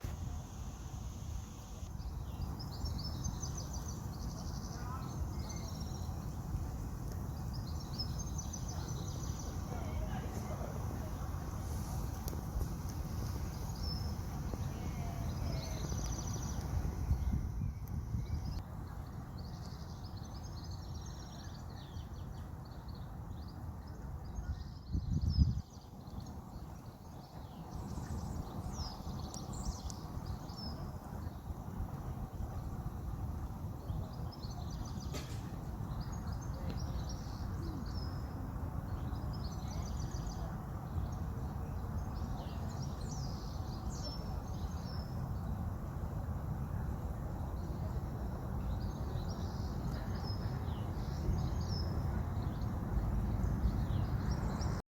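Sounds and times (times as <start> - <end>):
small birds chirping: 0.0 - 45.6, 46.6 - 54.8.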